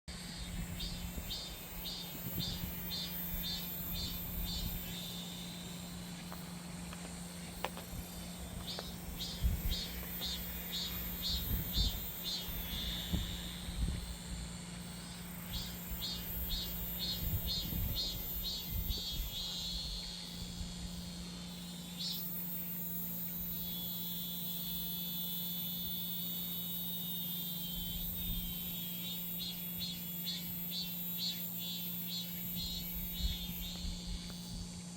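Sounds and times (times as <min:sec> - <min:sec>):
cicadas singing: 0:00.1 - 0:34.9.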